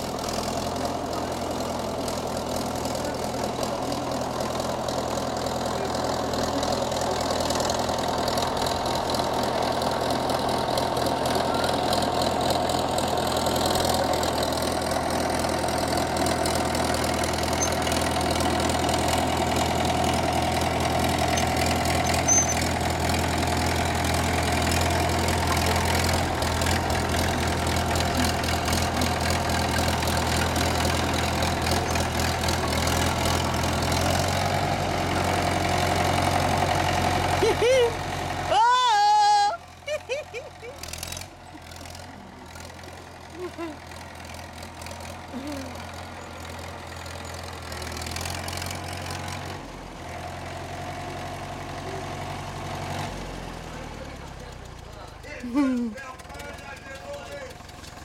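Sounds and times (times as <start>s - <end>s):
loader engine running: 0.0s - 58.0s.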